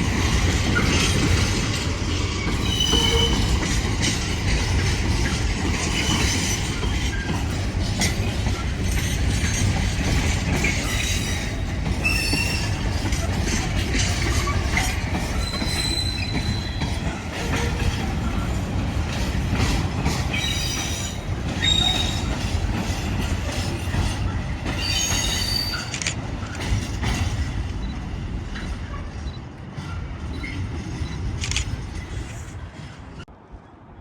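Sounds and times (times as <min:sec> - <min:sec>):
train wheel squeals: 0:00.0 - 0:18.7, 0:19.6 - 0:33.3
train rumbling: 0:00.0 - 0:34.0.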